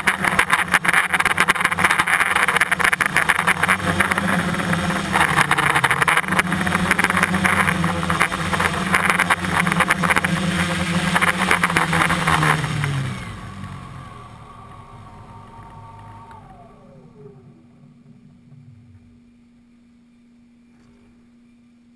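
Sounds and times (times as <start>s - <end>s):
drone propellers buzzing: 0.0s - 19.6s
faint whine gliding down: 0.0s - 21.9s.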